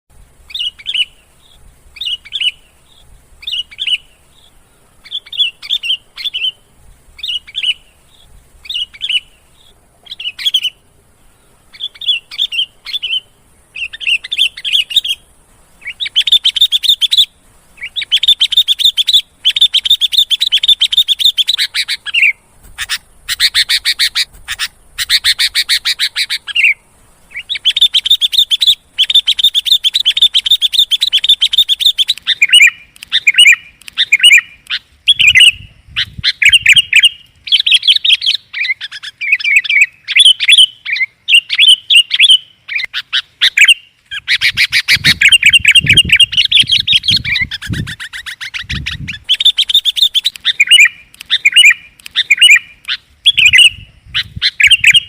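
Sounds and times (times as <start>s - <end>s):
bulbul calling: 0.2s - 55.0s.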